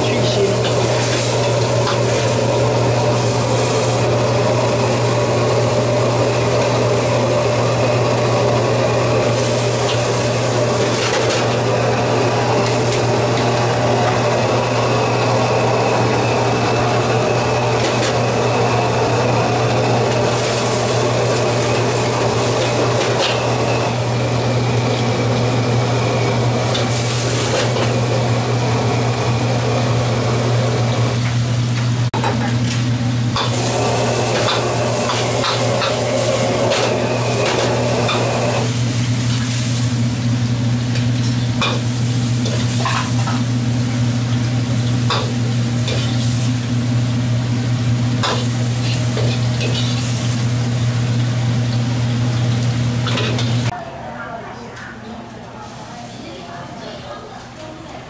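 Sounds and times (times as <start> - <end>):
food sizzling in a wok: 0.0 - 31.7, 33.4 - 53.8.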